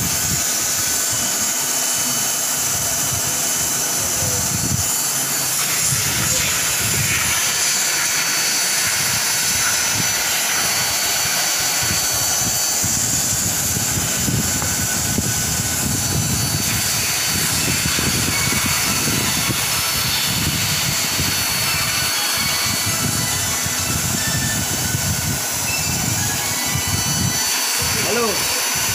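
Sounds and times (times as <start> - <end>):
blower hiss with high whine: 0.0 - 28.9.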